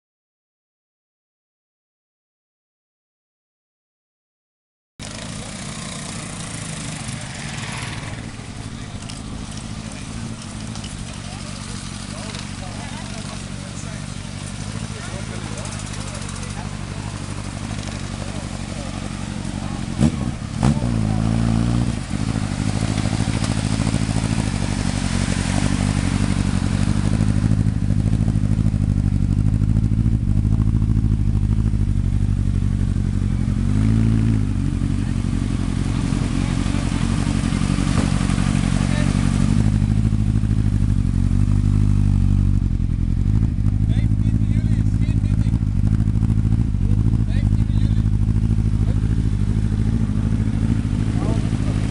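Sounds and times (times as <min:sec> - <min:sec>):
car engine idling and revving: 0:05.0 - 0:51.9.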